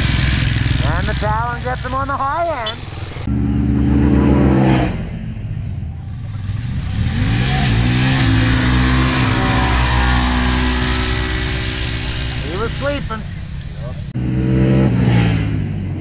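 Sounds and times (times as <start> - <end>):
high-revving engine: 0.0 - 16.0
vehicle engine accelerating: 0.0 - 16.0.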